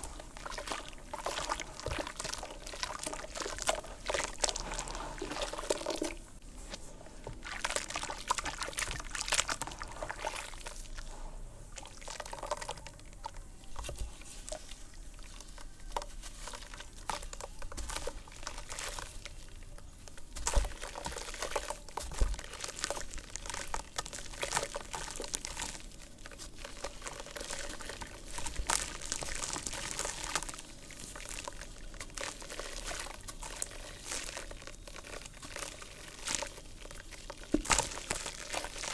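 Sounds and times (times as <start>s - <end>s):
water pouring and trickling: 0.0s - 6.4s, 7.2s - 38.9s
dry dirt crumbling and crackling: 0.0s - 38.9s.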